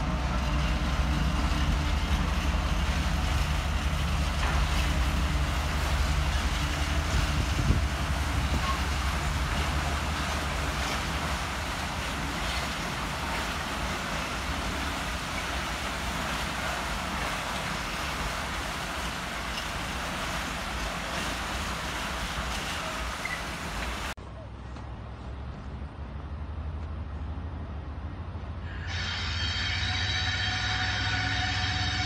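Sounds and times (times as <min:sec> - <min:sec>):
diesel locomotive engine drone: 0:00.0 - 0:32.0
wagons rumbling on rails: 0:00.0 - 0:32.0.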